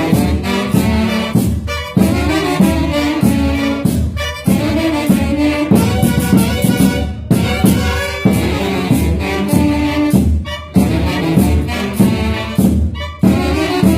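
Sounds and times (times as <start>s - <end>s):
horns playing melodic phrases: 0.0s - 13.9s.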